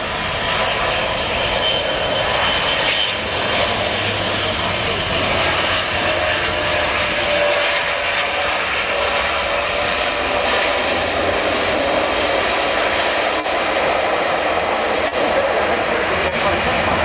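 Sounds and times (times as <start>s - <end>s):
turboprop engines droning: 0.0s - 17.0s.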